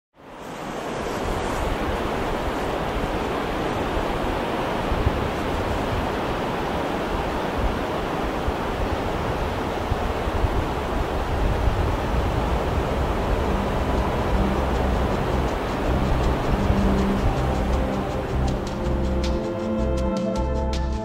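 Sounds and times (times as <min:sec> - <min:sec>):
waves breaking: 0:00.2 - 0:19.7.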